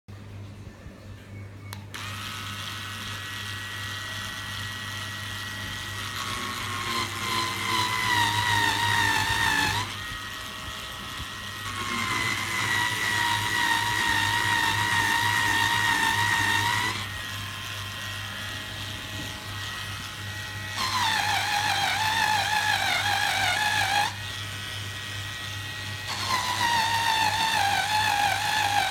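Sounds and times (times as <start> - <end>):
electric polisher grinding: 1.9 - 28.9.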